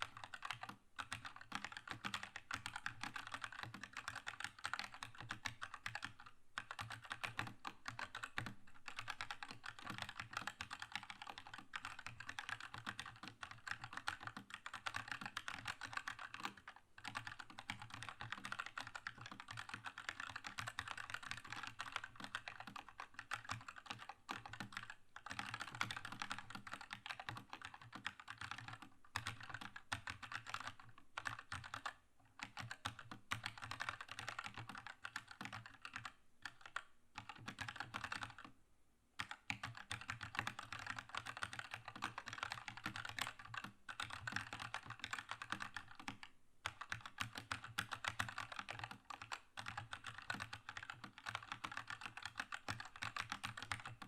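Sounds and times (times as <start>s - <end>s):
mechanical keyboard typing: 0.0s - 38.5s, 39.2s - 54.0s.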